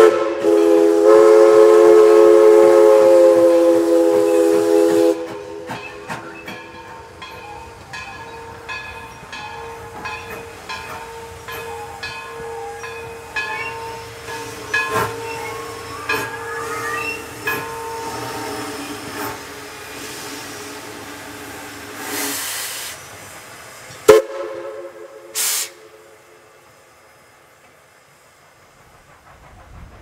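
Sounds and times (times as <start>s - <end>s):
steam hissing: 0.0s - 30.0s
steam locomotive steady tone: 0.0s - 30.0s.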